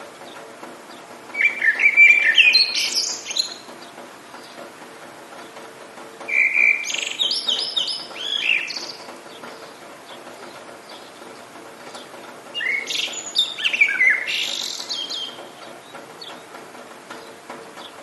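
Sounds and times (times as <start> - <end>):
rain hissing: 0.0 - 18.0
songbird singing: 0.1 - 18.0.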